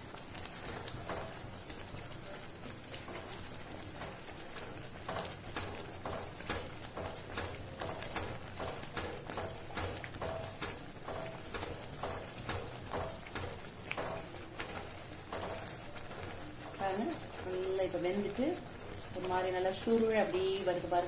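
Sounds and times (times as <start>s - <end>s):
thick semolina bubbling: 0.0s - 21.0s
wooden spatula stirring: 0.0s - 21.0s.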